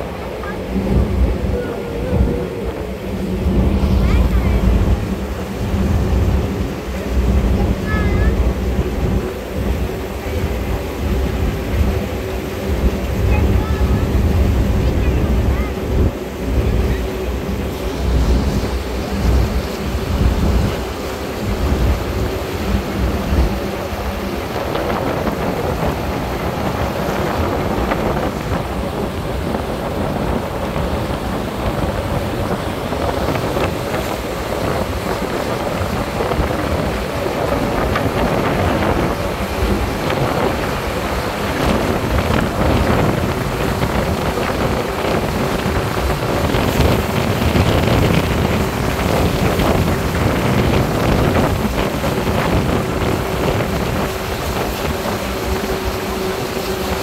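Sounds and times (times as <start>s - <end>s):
boat engine running: 0.0s - 57.0s
boat wake churning along hull: 0.0s - 57.0s
wind buffeting microphone: 0.0s - 57.0s.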